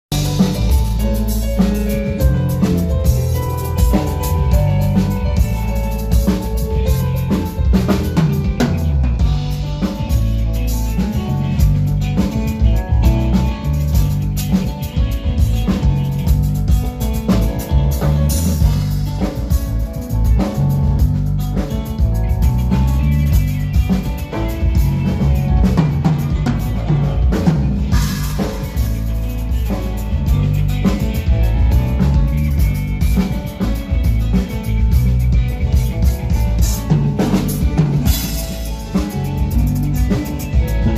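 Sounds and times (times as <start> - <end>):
drum kit playing: 0.0 - 40.9
low bass notes: 0.0 - 40.9.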